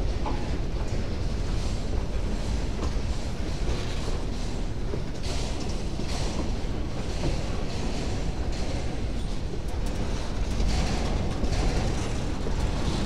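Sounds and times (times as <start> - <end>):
steel wheels rumbling and rattling on rail: 0.0 - 13.0.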